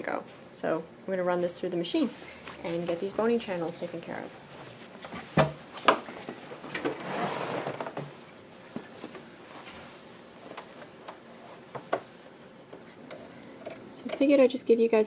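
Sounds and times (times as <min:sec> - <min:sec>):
cloth rustling: 0:01.3 - 0:13.6.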